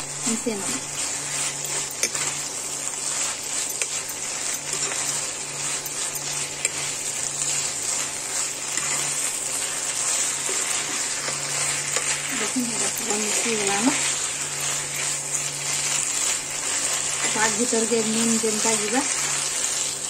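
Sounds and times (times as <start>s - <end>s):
vegetables sizzling in a pan: 0.0s - 20.0s
steel spatula scraping a pan: 0.5s - 20.0s.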